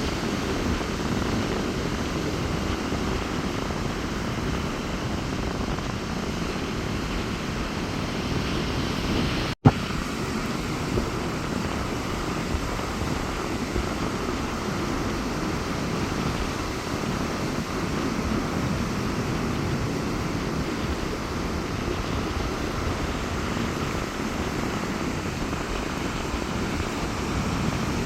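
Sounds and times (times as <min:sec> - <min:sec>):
sea surf breaking on beach: 0:00.0 - 0:28.0
strong wind: 0:00.0 - 0:28.0.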